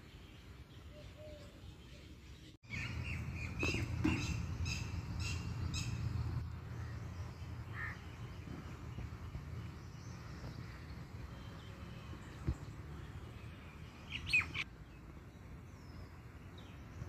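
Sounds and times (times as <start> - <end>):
birds calling: 0.0 - 14.7.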